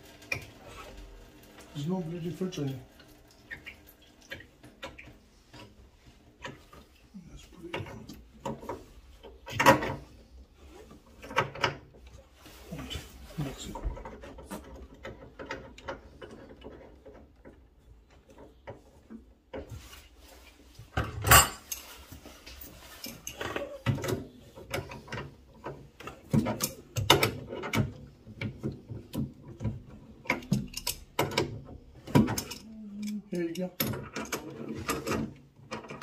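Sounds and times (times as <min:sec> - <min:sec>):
tools and parts clicking and rattling: 0:00.0 - 0:36.0.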